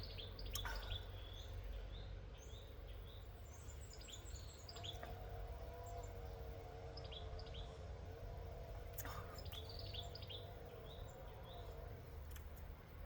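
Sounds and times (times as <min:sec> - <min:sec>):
small birds chirping: 0:00.0 - 0:07.8, 0:08.8 - 0:13.0
faint steady drone: 0:00.0 - 0:13.0.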